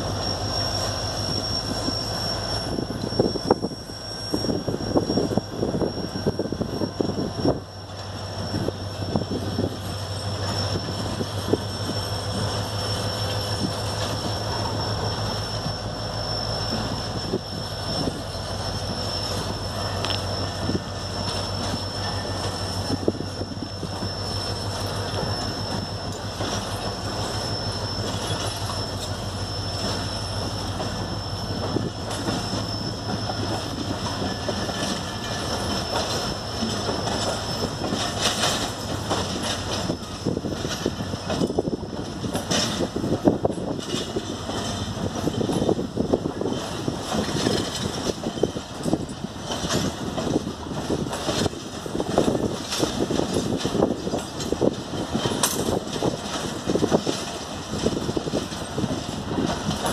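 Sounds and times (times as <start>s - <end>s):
high-pitched wheel squeal: 0.0s - 59.9s
train rumble: 0.0s - 59.9s
train wheels clicking on rails: 0.0s - 59.9s.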